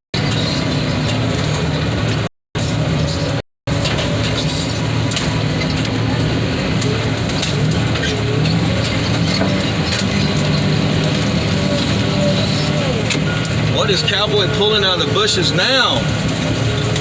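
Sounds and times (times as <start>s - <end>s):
diesel machinery engine drone: 0.2s - 17.0s.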